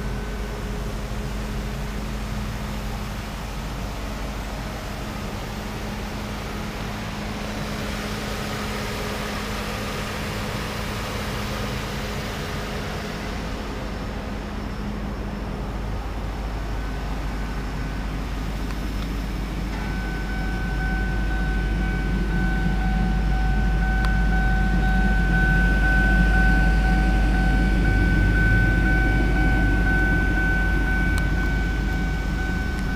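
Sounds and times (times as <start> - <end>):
car engine idling: 0.0 - 32.9
high-pitched whine: 0.0 - 32.9.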